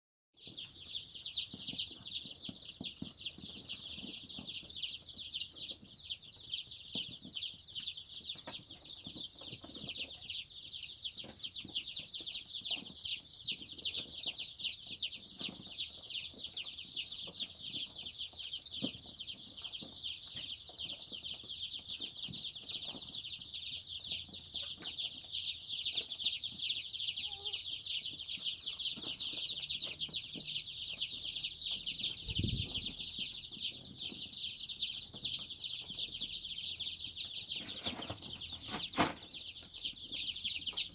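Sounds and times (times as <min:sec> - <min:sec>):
chicks peeping: 0:00.4 - 0:40.9.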